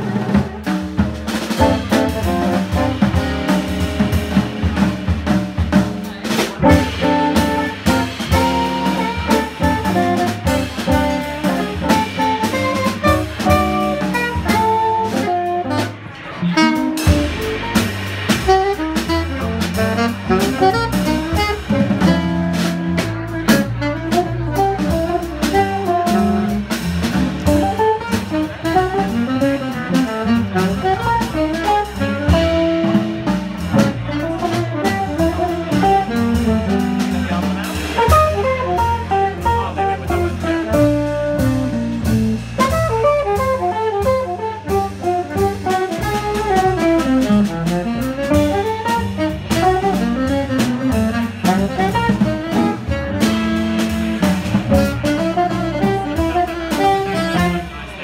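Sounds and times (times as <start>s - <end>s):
bass: 0.0s - 58.0s
drum kit: 0.0s - 58.0s
saxophone: 6.6s - 26.8s, 27.4s - 58.0s.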